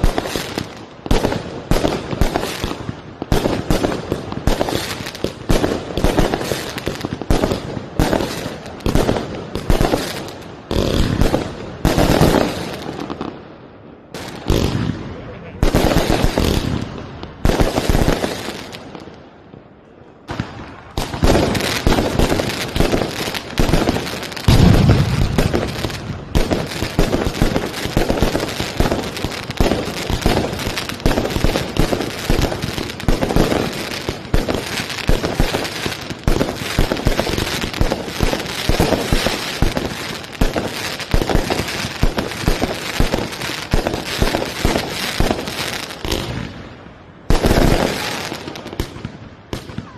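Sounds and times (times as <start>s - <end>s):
fireworks booming: 0.0s - 49.9s
fireworks crackling and popping: 0.0s - 49.9s.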